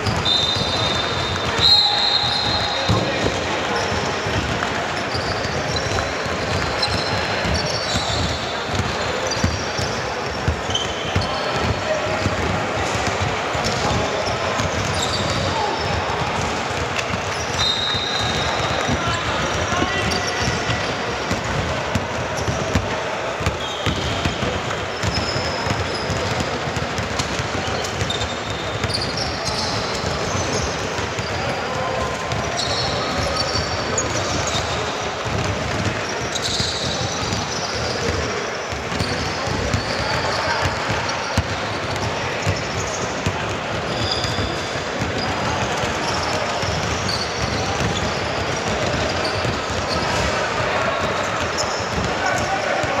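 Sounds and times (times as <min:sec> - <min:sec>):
basketball bouncing: 0:00.0 - 0:31.4, 0:32.1 - 0:50.4, 0:51.0 - 0:52.6
sneakers squeaking on floor: 0:00.0 - 0:53.0.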